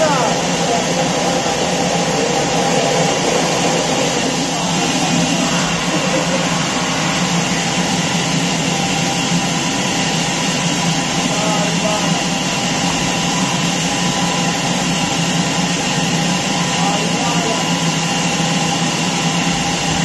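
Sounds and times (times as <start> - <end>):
band saw mechanical hum: 0.0 - 20.0.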